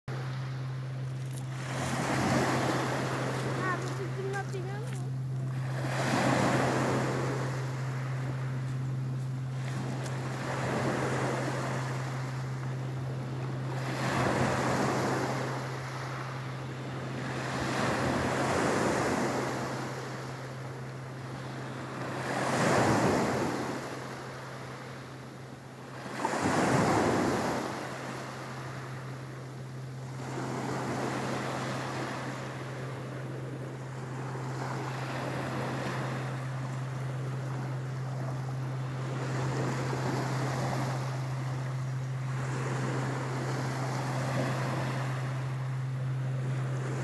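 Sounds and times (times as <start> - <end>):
steady low hum: 0.1 - 47.0
waves breaking on shore: 0.1 - 47.0.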